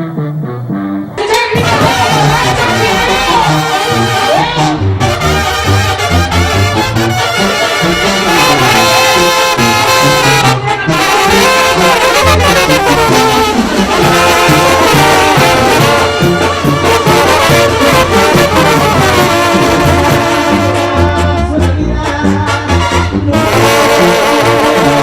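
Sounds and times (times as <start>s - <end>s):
rhythmic low bass line: 0.0s - 25.0s
trumpets and trombones melody: 0.0s - 25.0s.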